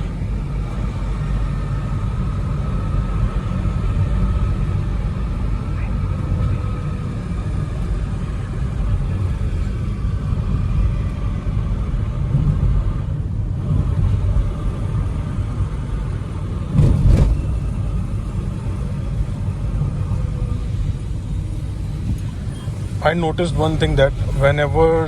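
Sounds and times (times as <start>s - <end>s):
car engine rumble: 0.0s - 25.0s
tyres on wet road: 0.0s - 25.0s.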